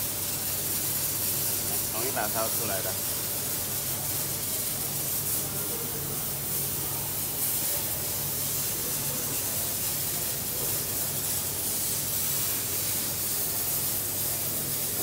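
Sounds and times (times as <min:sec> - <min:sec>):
high-pitched machinery hiss: 0:00.0 - 0:15.0
low constant machinery hum: 0:00.0 - 0:15.0.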